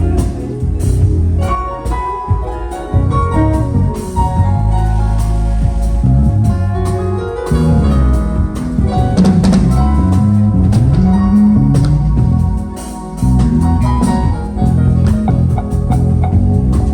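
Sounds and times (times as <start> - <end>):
drum kit keeping a beat: 0.0 - 16.9
moving bass line: 0.0 - 16.9
sustained instrument notes: 0.0 - 16.9.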